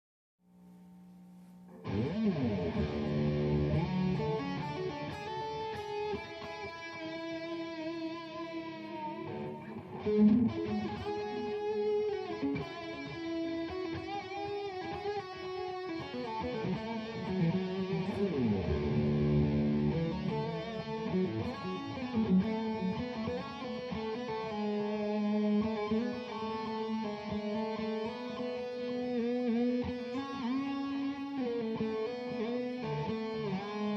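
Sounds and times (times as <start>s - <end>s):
electric guitar notes: 1.7s - 33.9s
sliding guitar notes: 1.7s - 33.9s.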